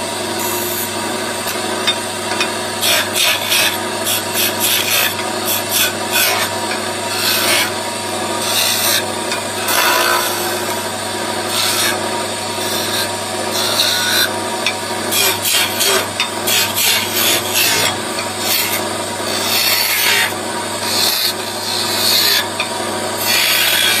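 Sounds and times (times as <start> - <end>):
chisel scraping spinning wood: 0.0 - 24.0
wood lathe hum: 0.0 - 24.0.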